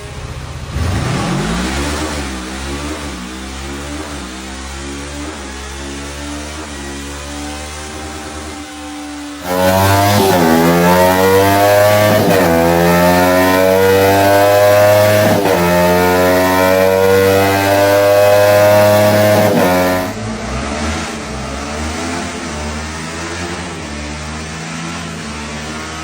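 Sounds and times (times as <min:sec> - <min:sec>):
motorcycle engine accelerating: 0:00.4 - 0:26.0.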